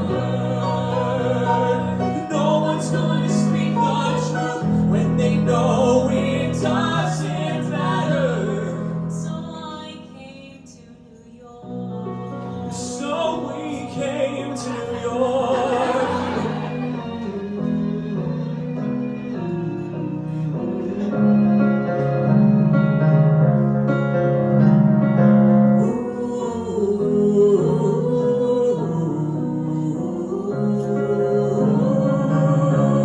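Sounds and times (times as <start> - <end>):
piano chords: 0.0 - 33.0.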